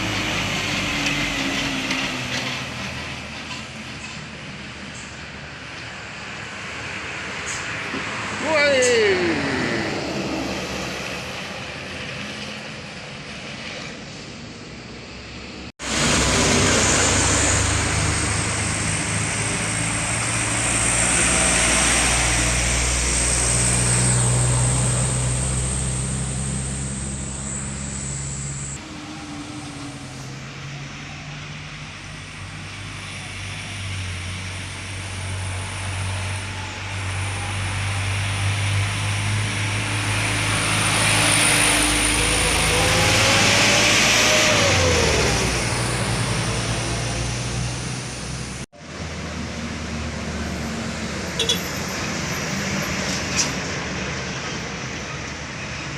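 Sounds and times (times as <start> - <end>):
heavy truck engines climbing: 0.0 - 55.9.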